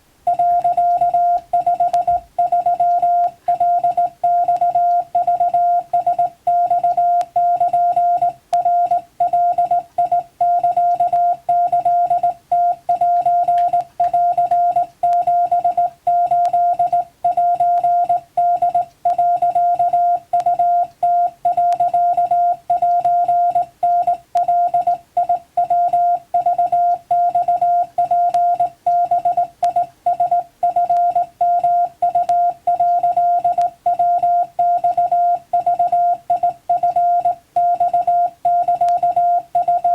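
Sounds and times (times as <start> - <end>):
morse code beeps: 0.3 - 39.9.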